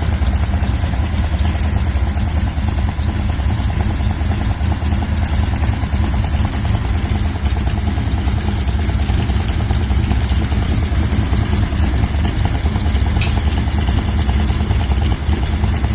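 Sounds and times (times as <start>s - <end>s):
truck engine idling: 0.0s - 15.9s
light ticks: 0.2s - 15.9s.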